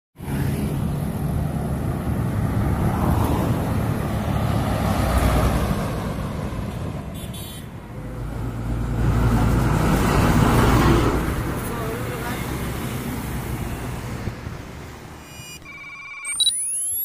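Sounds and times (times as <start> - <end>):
road traffic noise: 0.2 - 17.0.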